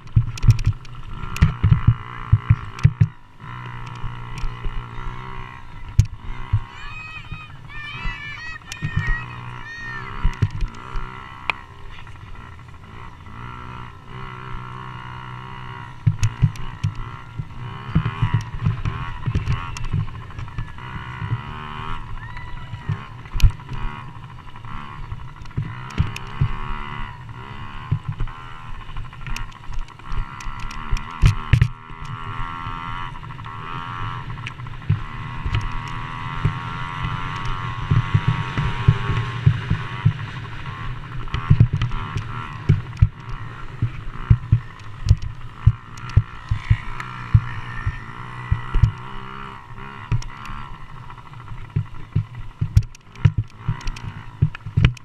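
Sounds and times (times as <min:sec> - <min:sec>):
motocross bike engines racing: 0:00.0 - 0:55.0.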